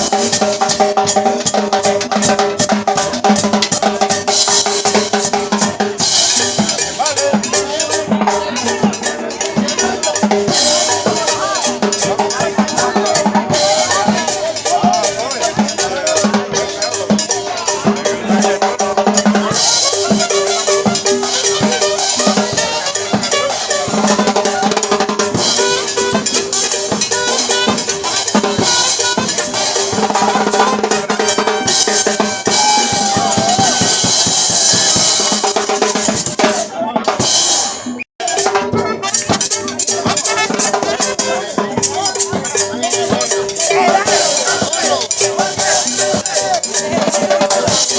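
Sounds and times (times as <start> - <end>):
drum kit beat: 0.0 - 47.9
live dance band playing: 0.0 - 47.9.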